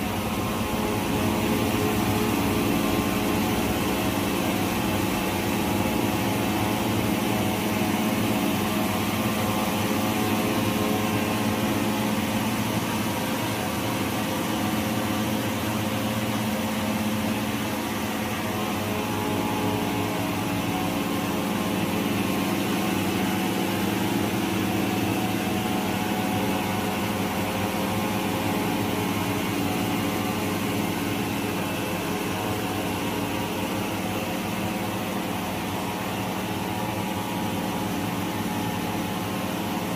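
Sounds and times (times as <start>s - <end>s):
knitting machine hum and whir: 0.0s - 39.9s.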